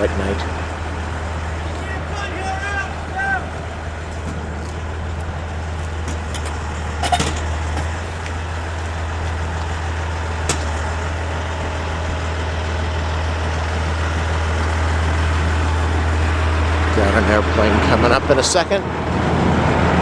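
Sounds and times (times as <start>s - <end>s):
vehicles and machinery rumbling: 0.0s - 20.0s.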